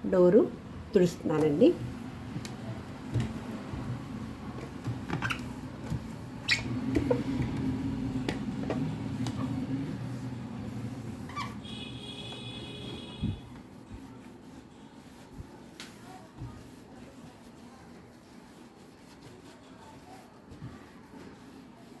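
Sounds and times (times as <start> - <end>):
cloth rubbing on door: 0.4 - 22.0.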